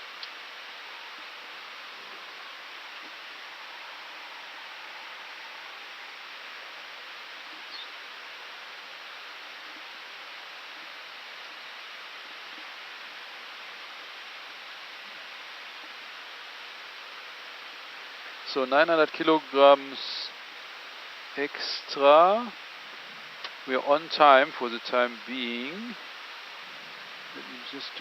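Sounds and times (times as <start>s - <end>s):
cockpit airflow and ventilation hiss: 0.0s - 28.0s.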